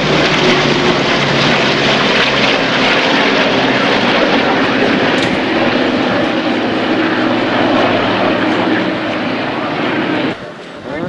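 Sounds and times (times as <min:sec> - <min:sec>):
propeller airplane engine running: 0:00.0 - 0:11.0.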